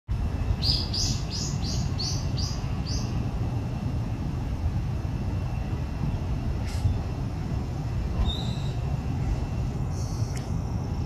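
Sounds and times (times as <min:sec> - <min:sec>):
steady low rumble: 0:00.1 - 0:11.0.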